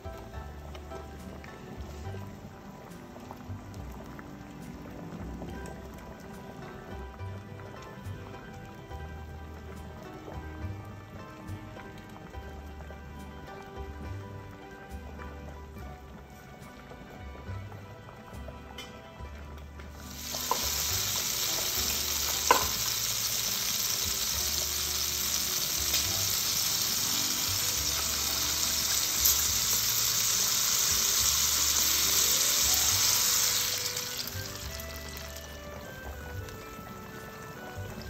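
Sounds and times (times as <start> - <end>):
wine sizzling in hot pan: 0.0 - 38.0.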